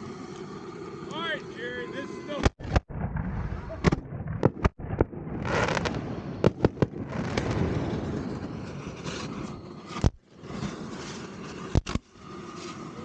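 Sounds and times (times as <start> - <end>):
fireworks crackle: 0.0 - 13.0
fireworks bangs: 2.0 - 13.0.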